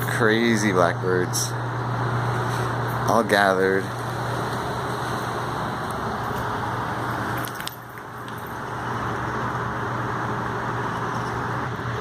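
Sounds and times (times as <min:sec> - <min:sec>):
mechanical hum with rushing: 0:00.0 - 0:12.0.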